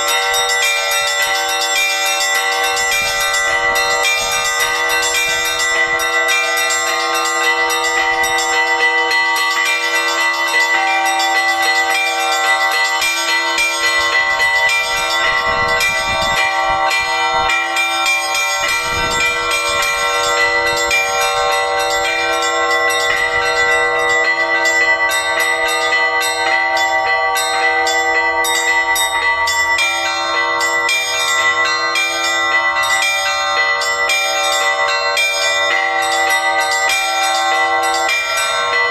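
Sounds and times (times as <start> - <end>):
deeper bells ringing: 0.0 - 38.9
small high bells struck rapidly: 0.0 - 38.9.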